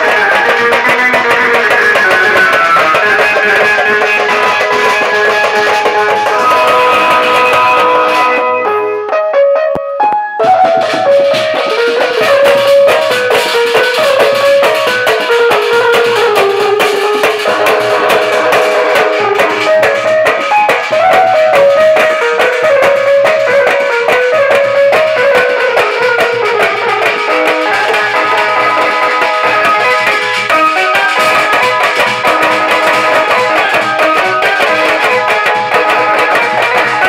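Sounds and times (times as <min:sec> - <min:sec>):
frame drums beaten fast: 0:00.0 - 0:08.5, 0:10.4 - 0:37.0
melody through a loudspeaker: 0:00.0 - 0:37.0.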